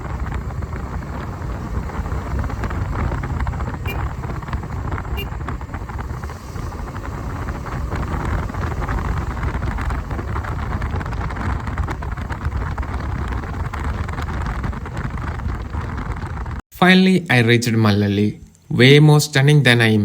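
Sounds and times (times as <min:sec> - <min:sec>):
motorcycle running: 0:00.0 - 0:16.6
wind buffeting microphone: 0:00.0 - 0:16.6
tyres on road: 0:00.0 - 0:20.0.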